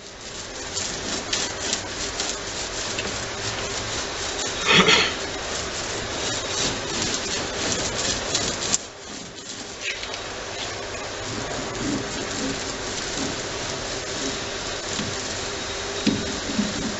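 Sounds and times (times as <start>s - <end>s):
brush scrubbing on plywood: 0.0s - 16.9s.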